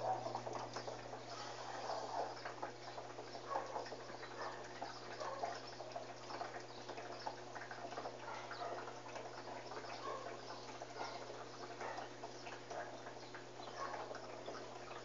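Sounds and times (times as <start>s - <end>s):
washing machine low hum: 0.0s - 15.0s
water splashing in washing machine: 0.0s - 15.0s.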